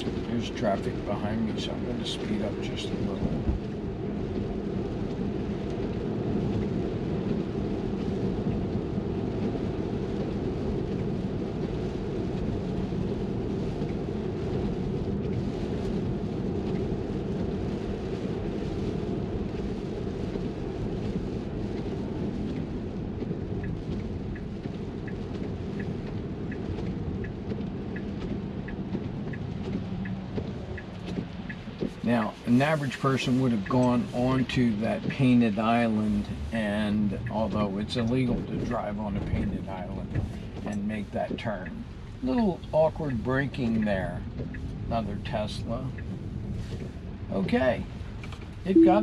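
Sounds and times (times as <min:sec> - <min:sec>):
turn signal ticking: 0:00.0 - 0:17.6, 0:18.3 - 0:49.0
tyres rumbling on wet road: 0:00.0 - 0:48.8
rain hissing on glass: 0:00.0 - 0:49.0.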